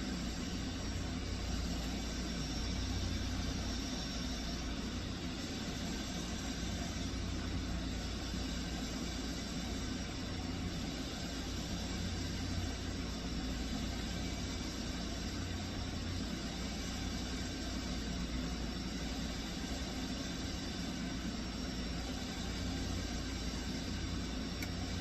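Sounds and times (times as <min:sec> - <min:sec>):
small electric fan whirring: 0:00.0 - 0:25.0.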